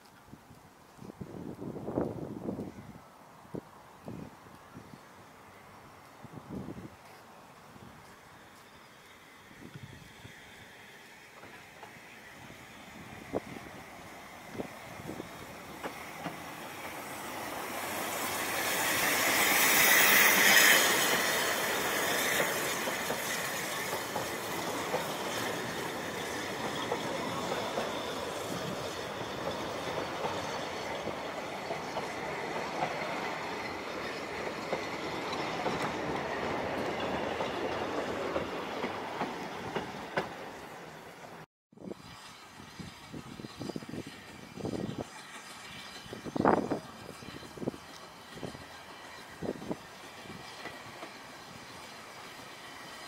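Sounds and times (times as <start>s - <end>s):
train running past: 1.4s - 53.0s
wheels clicking over rail joints: 6.7s - 53.0s.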